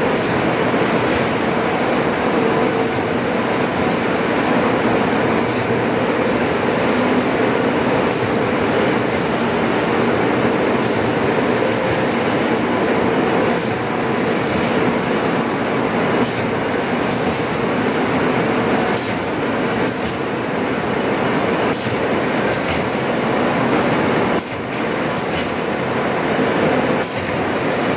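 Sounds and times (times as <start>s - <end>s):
steady machine drone: 0.0s - 27.9s.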